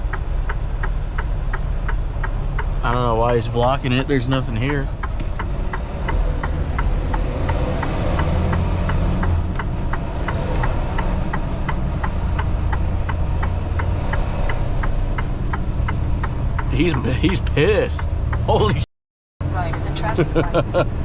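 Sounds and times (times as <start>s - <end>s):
diesel truck engine idling: 0.0s - 18.8s, 19.4s - 21.0s
steady ticking: 0.0s - 21.0s.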